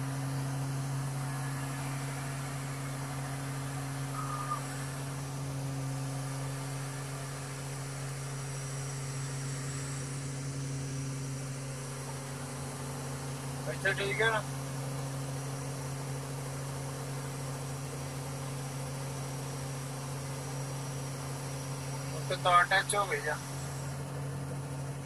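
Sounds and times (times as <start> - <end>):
diesel engine drone: 0.0 - 25.0.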